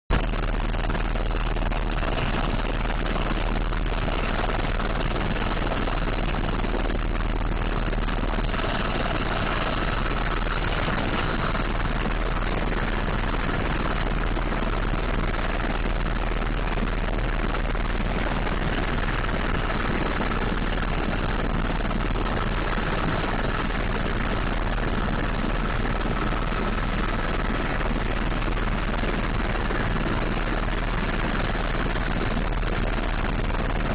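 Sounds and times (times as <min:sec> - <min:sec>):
helicopter rotor and engine noise: 0:00.1 - 0:33.9.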